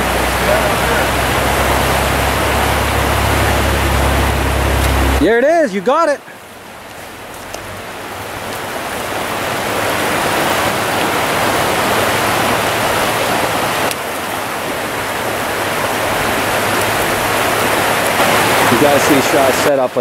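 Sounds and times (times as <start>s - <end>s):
stream rushing over riffle: 0.0s - 20.0s.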